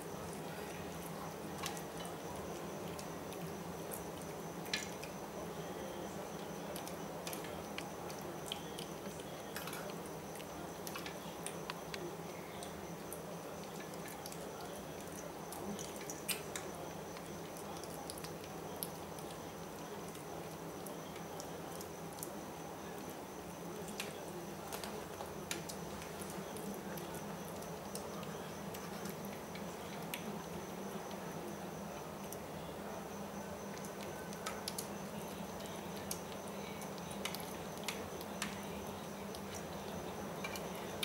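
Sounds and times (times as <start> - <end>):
kitten chewing and lapping: 0.0 - 32.6, 33.4 - 41.0.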